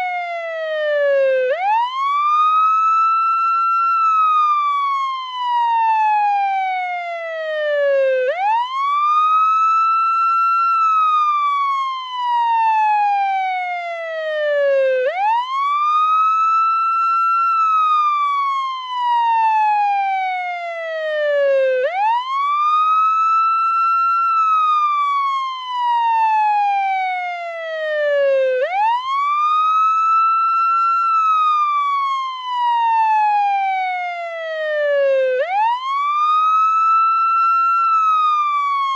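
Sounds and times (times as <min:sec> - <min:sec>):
ambulance siren wailing: 0:00.0 - 0:38.9.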